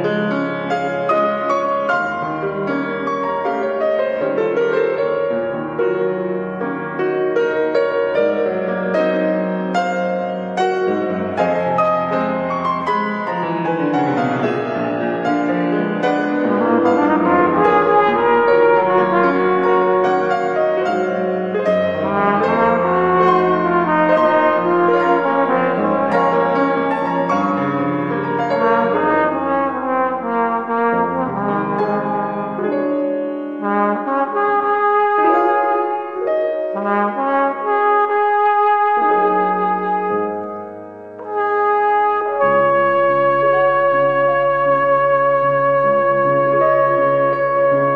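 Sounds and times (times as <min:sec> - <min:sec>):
piano playing: 0:00.0 - 0:47.9
recorded backing music: 0:00.0 - 0:47.9
flugelhorn slow melody: 0:07.4 - 0:47.9.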